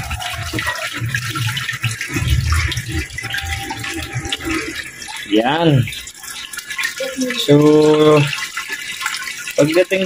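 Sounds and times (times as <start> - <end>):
water splashing into a tank: 0.0 - 10.0.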